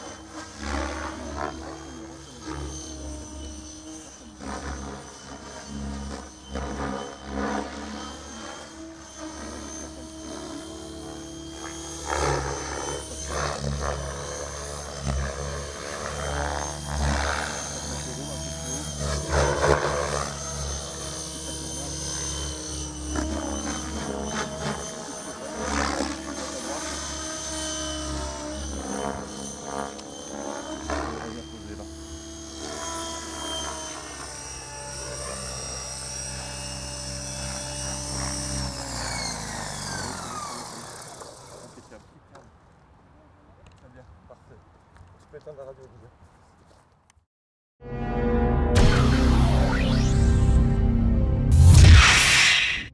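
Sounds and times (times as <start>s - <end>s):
helicopter blade noise: 0.0s - 42.7s, 47.8s - 52.9s
model helicopter motor whine: 0.0s - 44.5s, 48.8s - 52.9s.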